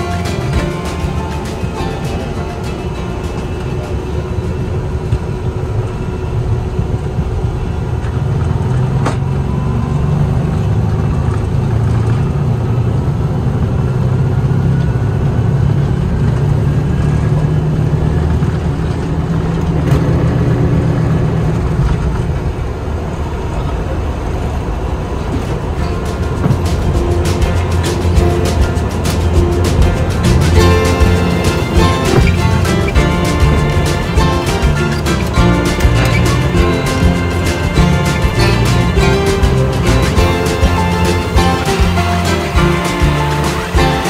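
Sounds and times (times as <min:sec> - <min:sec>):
jet engines low rumble: 0:00.0 - 0:44.0.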